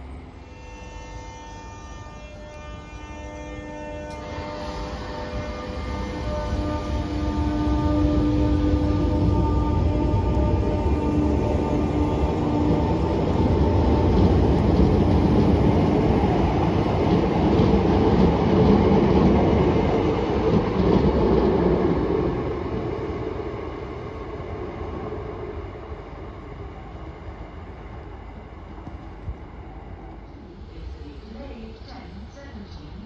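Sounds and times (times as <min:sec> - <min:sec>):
train wheels rumbling: 0:03.9 - 0:33.0.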